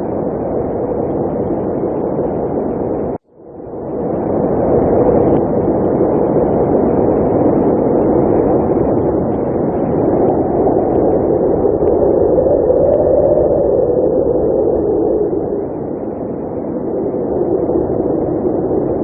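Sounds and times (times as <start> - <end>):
blizzard wind blowing: 0.0 - 19.0.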